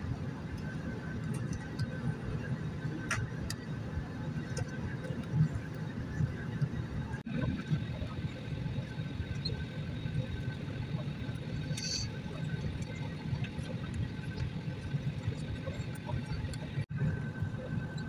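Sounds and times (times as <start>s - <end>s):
aircraft cabin rumble: 0.0s - 18.0s
faint steady whine: 0.0s - 18.0s.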